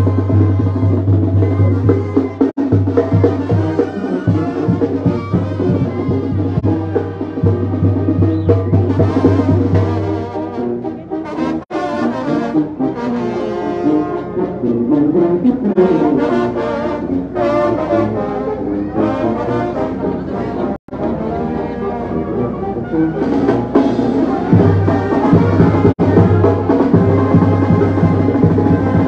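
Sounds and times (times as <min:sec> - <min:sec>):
brass band music: 0:00.0 - 0:29.0.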